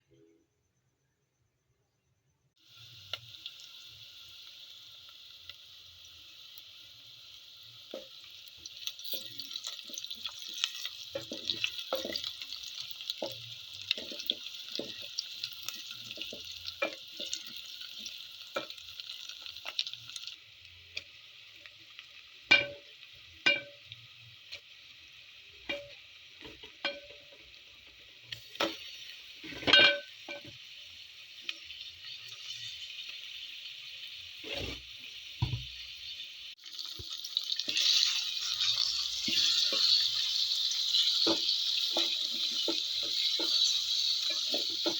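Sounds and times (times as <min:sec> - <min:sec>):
food sizzling in a pot: 0:02.6 - 0:44.9.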